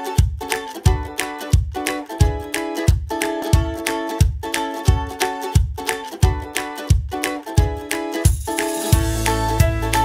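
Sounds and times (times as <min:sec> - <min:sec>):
upbeat plucked string music: 0:00.0 - 0:10.0.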